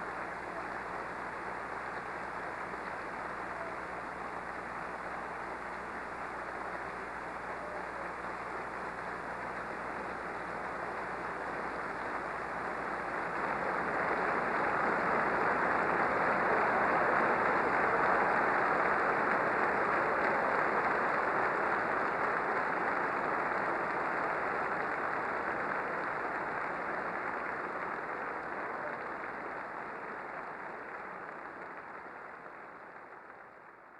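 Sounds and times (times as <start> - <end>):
audience applauding: 0.0 - 33.9.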